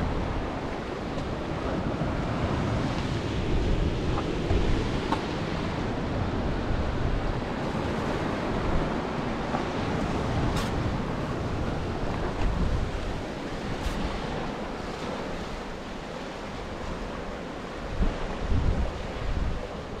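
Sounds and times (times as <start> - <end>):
surf breaking over rocks: 0.0 - 20.0
wind buffeting microphone: 0.0 - 20.0.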